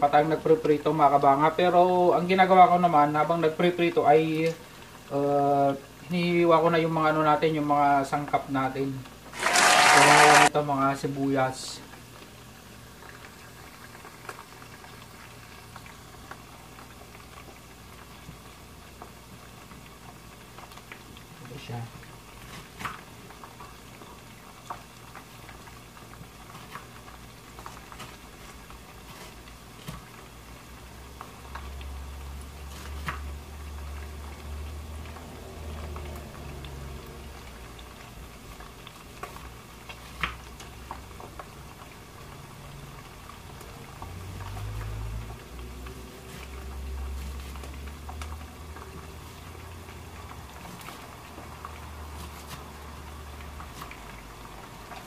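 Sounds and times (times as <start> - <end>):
oil sizzling: 0.0 - 55.0.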